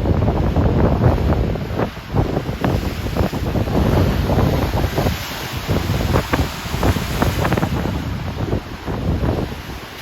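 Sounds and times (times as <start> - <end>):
choppy ocean waves splashing: 0.0 - 10.0
wind buffeting microphone: 0.0 - 10.0.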